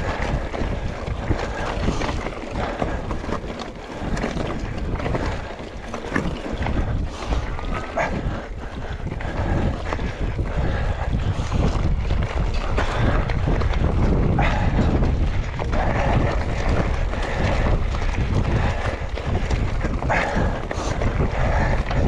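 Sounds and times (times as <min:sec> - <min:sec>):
bike knocking over rough ground: 0:00.0 - 0:22.0
bike tyre noise: 0:00.0 - 0:22.0
wind rumbling on microphone: 0:00.0 - 0:22.0.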